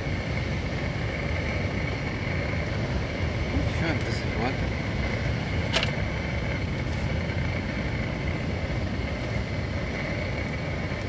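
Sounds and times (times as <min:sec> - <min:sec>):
gas stove burner roaring: 0:00.0 - 0:11.0.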